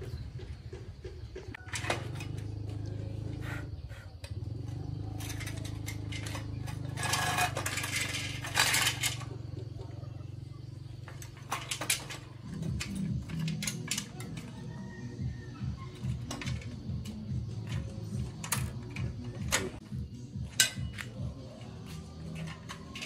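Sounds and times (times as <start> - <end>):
metal spokes clinking and scraping: 1.5 - 19.8, 20.4 - 23.0.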